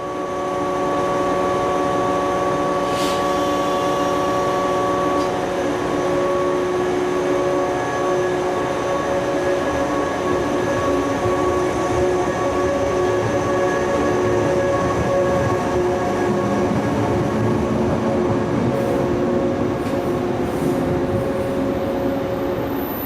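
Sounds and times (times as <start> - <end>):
electric railcar humming: 0.0 - 23.0.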